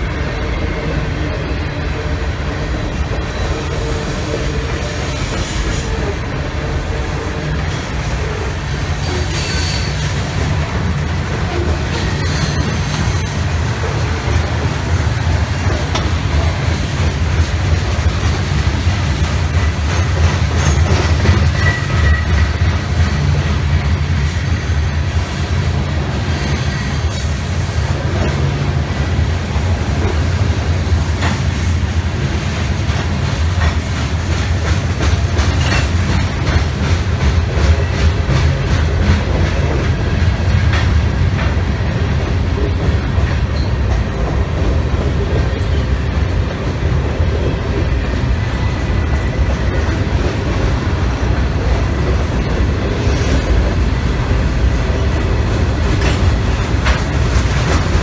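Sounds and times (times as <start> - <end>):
train cars rumbling past: 0.0 - 58.0.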